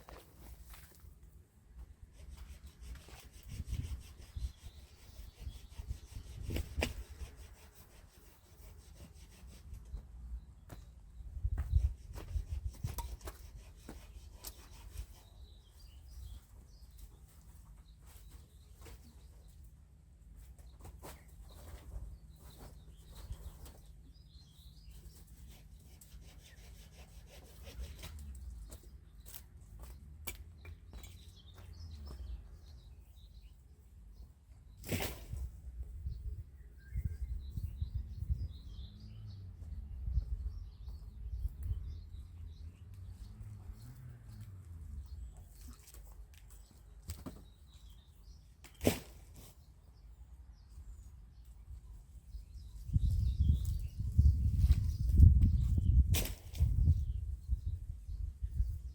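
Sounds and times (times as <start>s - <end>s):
small birds chirping: 2.2s - 35.1s, 35.7s - 58.9s.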